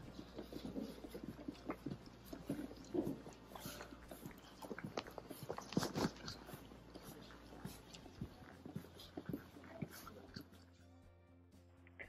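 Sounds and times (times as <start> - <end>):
footsteps on hard floor: 0.0 - 10.2
rustling near microphone: 0.0 - 10.7.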